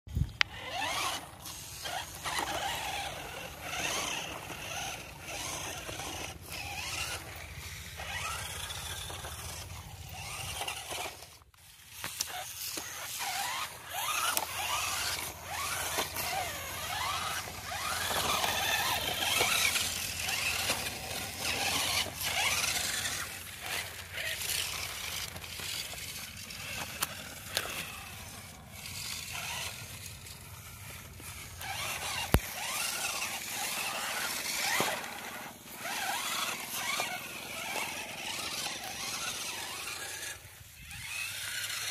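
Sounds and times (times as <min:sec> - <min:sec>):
toy truck electric motors whining: 0:00.1 - 0:41.9.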